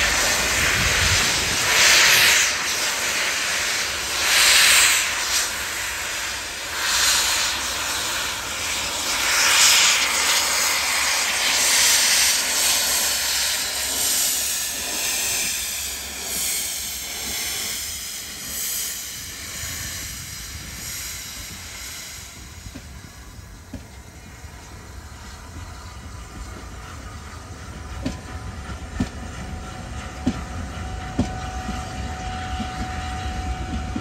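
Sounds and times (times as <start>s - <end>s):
steam locomotive hissing: 0.0s - 34.0s.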